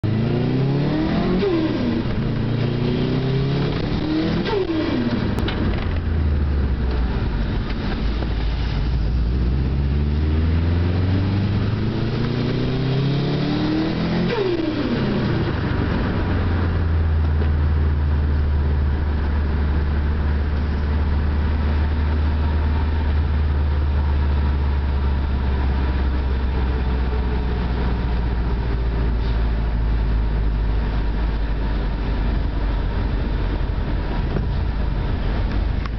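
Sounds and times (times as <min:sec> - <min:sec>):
turbocharged car engine accelerating: 0:00.0 - 0:35.9.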